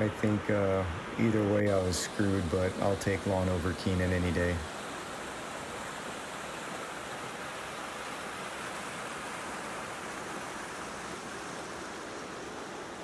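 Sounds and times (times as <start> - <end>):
creek rushing over boulders: 0.0 - 13.0.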